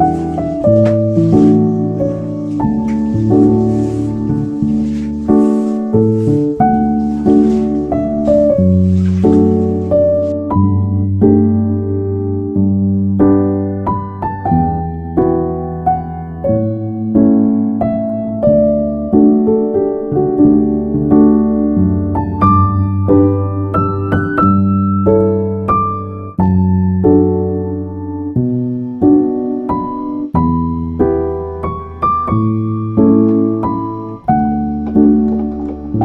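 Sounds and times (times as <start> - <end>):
slow gentle piano chords: 0.0 - 36.0.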